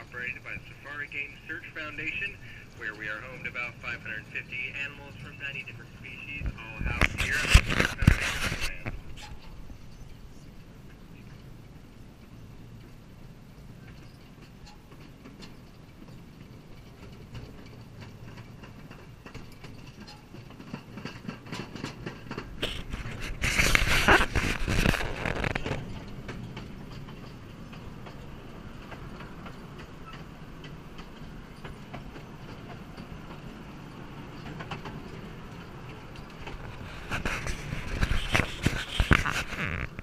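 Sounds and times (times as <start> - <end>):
harsh wheel clatter: 0.0 - 40.0
train car rumbling on track: 0.0 - 40.0.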